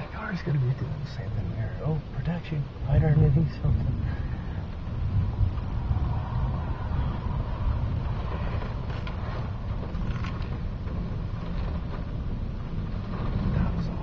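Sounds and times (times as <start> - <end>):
faint crackles: 0.0 - 14.0
heavy rain on a car: 0.0 - 14.0
strong wind: 0.0 - 14.0.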